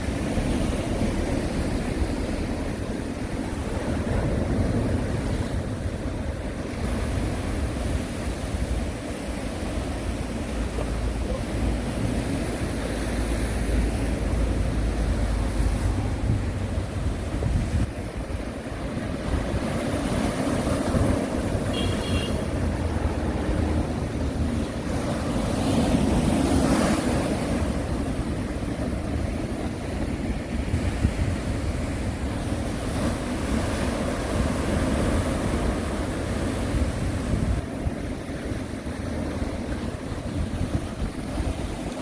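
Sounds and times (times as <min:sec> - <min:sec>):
sea waves breaking: 0:00.0 - 0:42.0.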